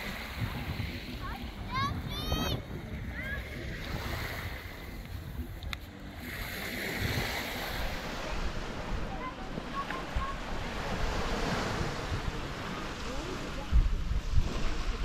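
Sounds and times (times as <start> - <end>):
small waves washing on sand: 0.0 - 15.0
wind rumbling on microphone: 0.0 - 15.0.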